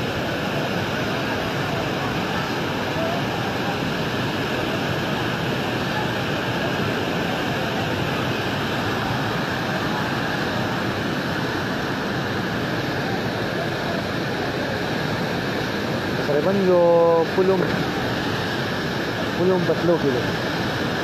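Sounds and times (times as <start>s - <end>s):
river torrent rushing: 0.0s - 21.0s.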